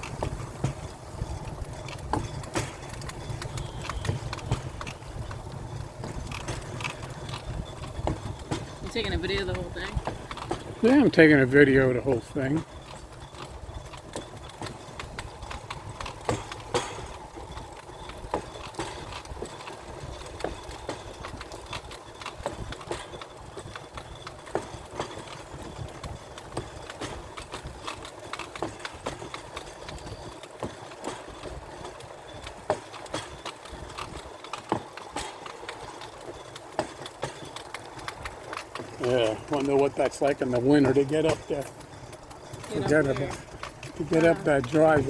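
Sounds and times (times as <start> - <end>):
steel wheels rumbling on track: 0.0 - 45.0
wheels clicking and knocking: 0.0 - 45.0.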